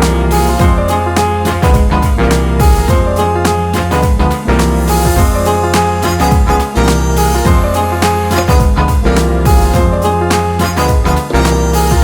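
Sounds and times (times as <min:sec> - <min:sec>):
upbeat keyboard music: 0:00.0 - 0:12.0.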